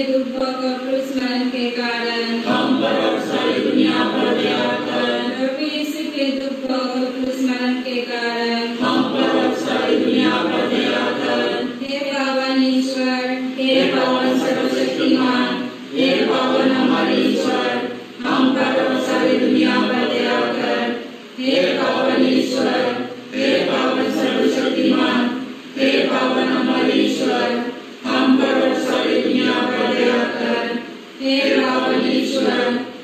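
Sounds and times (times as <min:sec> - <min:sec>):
group singing without instruments: 0:02.1 - 0:05.6, 0:08.5 - 0:33.0.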